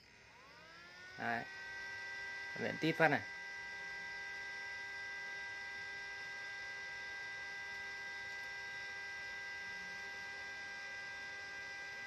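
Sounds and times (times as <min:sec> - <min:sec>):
cooling fan whirring with high tones: 0:00.0 - 0:12.0.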